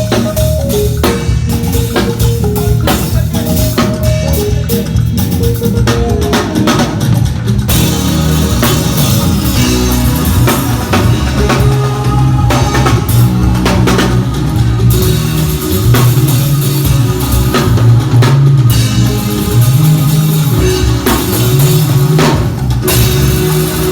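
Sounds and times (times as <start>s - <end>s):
drum kit: 0.0s - 23.9s
guitar: 0.0s - 23.9s
sustained bass notes: 0.0s - 23.9s.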